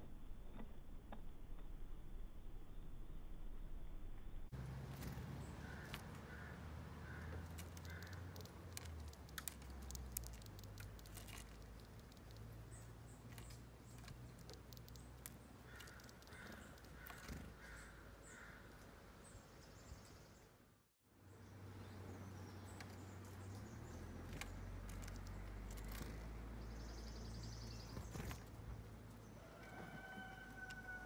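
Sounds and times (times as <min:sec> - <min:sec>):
bird calling evenly spaced notes: 0:04.6 - 0:20.6, 0:21.2 - 0:31.0.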